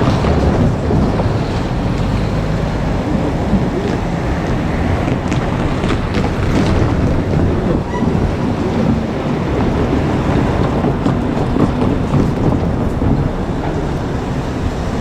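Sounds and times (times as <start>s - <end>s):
electric train rumbling past: 0.0s - 15.0s.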